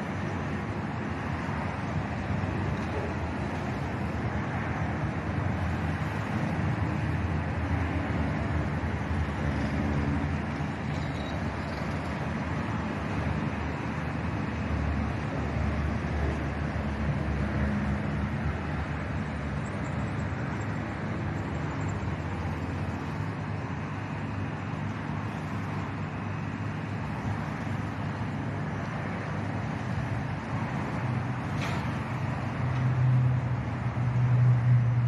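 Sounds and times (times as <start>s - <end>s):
distant traffic rumble: 0.0s - 35.0s
low engine hum: 0.0s - 35.0s.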